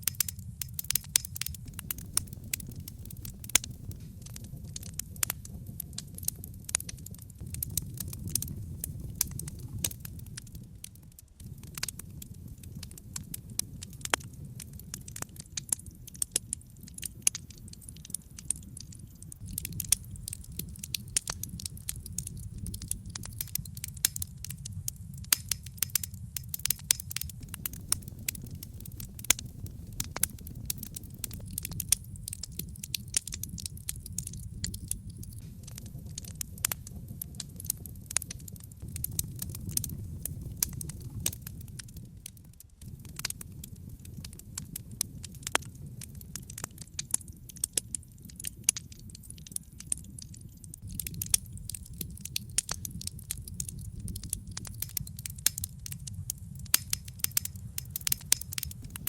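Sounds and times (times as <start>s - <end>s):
fire rumbling: 0.0s - 59.0s
wood crackling and popping: 0.0s - 59.0s.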